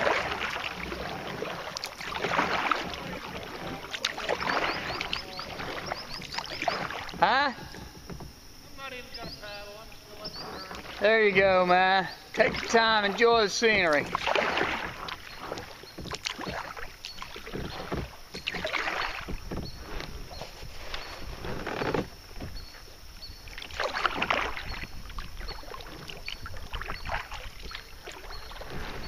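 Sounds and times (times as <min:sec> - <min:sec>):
paddle splashing in water: 0:00.0 - 0:29.0.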